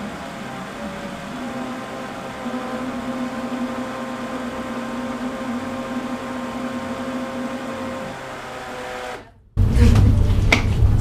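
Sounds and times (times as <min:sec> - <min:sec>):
blender motor whirring: 0:00.0 - 0:09.4.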